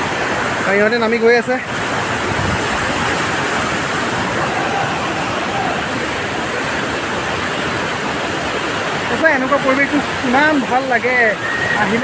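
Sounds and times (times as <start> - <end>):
waterfall and stream rushing over rocks: 0.0 - 12.0.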